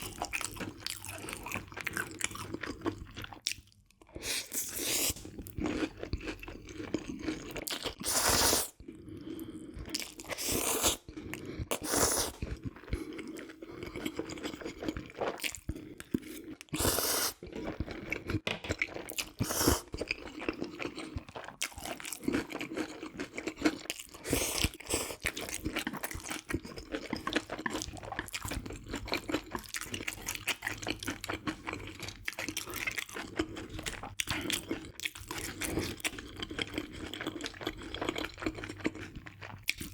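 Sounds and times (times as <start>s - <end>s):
crunching bites and chewing: 0.0s - 8.1s, 9.9s - 39.9s.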